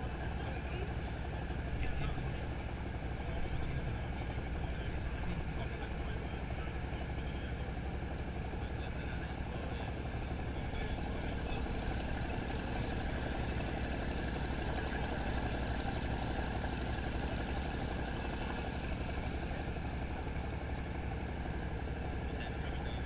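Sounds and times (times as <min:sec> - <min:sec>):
speedboat engine running: 0:00.0 - 0:23.0.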